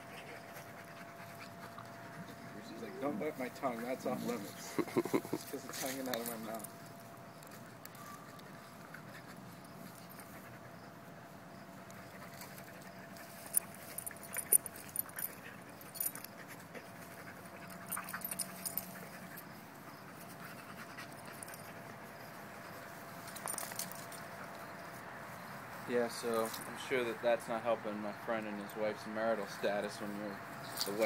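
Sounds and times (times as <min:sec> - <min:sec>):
dogs play-fighting: 0:00.0 - 0:25.9
collar tags jingling: 0:00.1 - 0:31.0.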